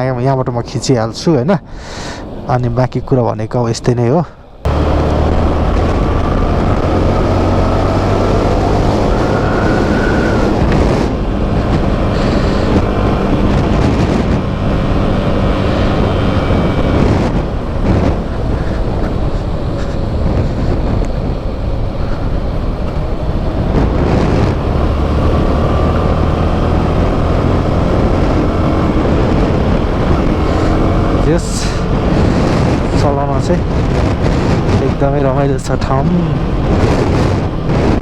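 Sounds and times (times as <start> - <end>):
wind buffeting microphone: 0.0 - 38.0
motorcycle engine running: 4.7 - 35.2.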